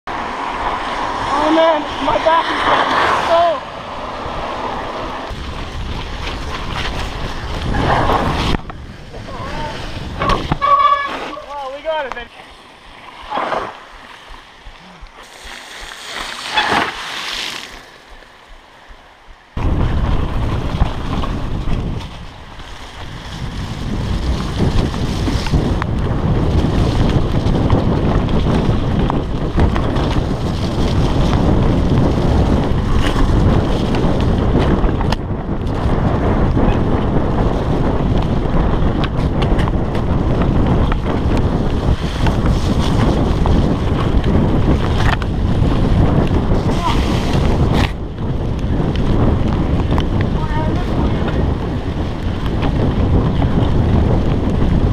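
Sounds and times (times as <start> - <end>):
wind buffeting microphone: 0.1 - 54.9.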